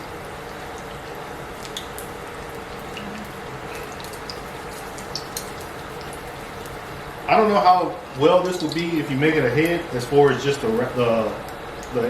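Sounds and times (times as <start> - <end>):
deep-frying sizzle: 0.0 - 12.0
oil popping and crackling: 0.0 - 12.0.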